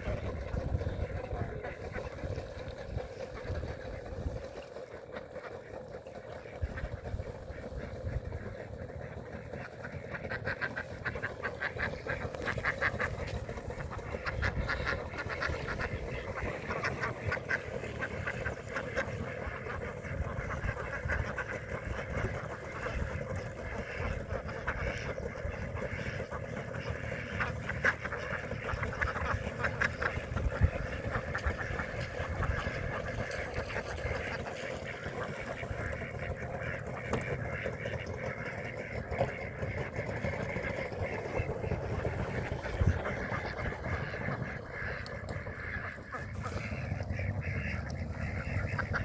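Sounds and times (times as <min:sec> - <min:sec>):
ducks quacking: 0:00.0 - 0:49.0
steady hum: 0:00.0 - 0:49.0.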